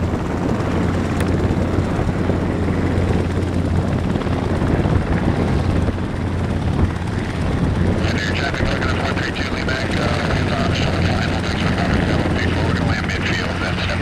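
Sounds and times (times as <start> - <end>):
small aircraft engine droning: 0.0 - 14.0.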